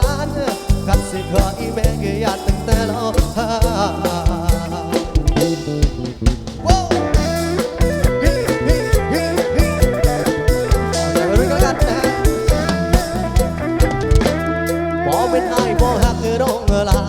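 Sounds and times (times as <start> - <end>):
wavering lead melody: 0.0 - 16.7
drum kit beat: 0.0 - 17.0
guitar: 0.0 - 17.0.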